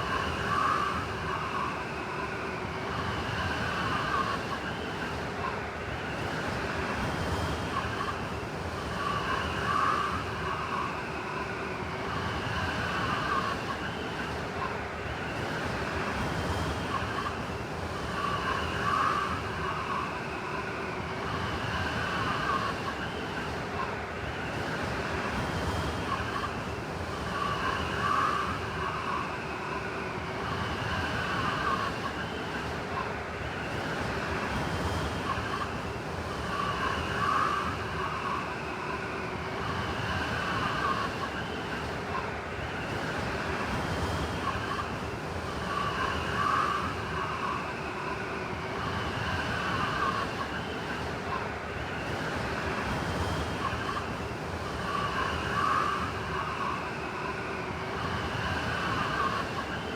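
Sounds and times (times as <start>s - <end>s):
blizzard wind howling: 0.0s - 59.9s.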